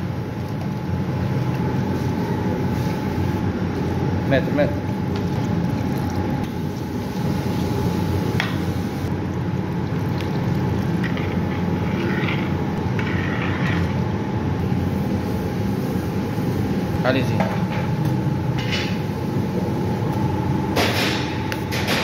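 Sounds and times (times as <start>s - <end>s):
low mechanical rumble: 0.0s - 21.8s
constant hum: 0.0s - 22.0s.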